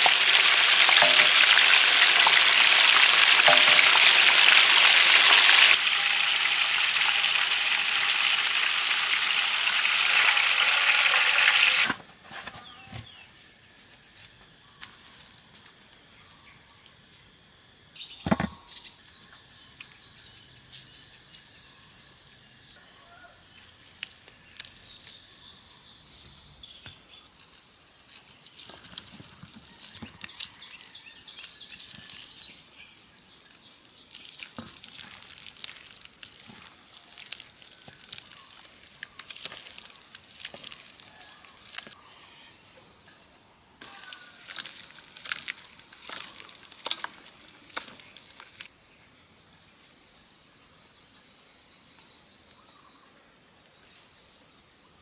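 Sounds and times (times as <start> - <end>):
insects chirring: 0.0 - 52.5.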